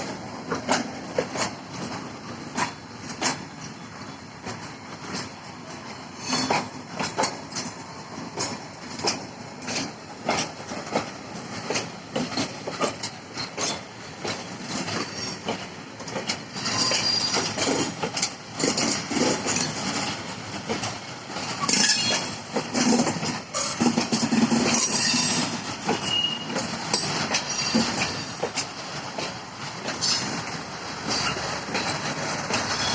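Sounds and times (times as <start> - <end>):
wagon wheels clacking on rails: 0.0 - 32.9.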